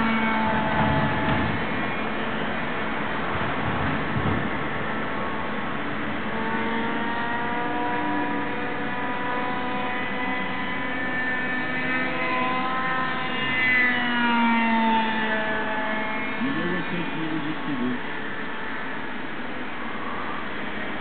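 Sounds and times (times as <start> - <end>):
model airplane engine drone: 0.0 - 21.0.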